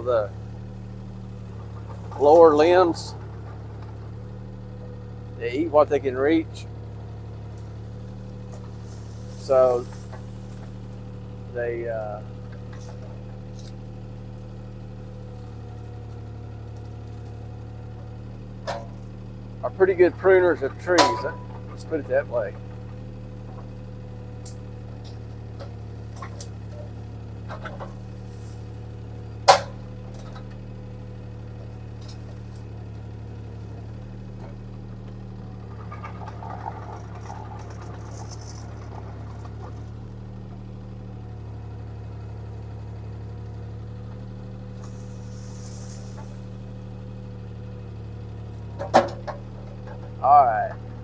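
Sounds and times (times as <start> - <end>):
diesel engine droning: 0.0 - 51.0.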